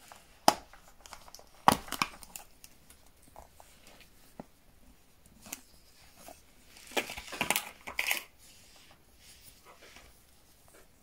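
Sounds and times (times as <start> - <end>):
cloth rustling and crinkling: 0.0 - 11.0.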